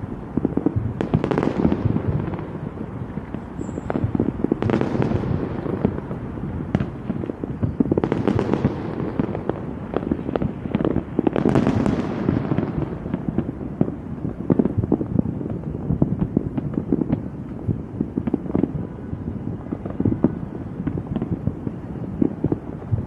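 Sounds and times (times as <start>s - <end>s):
fireworks bangs and pops: 0.0s - 23.0s
fireworks crackling and hissing: 0.0s - 23.0s.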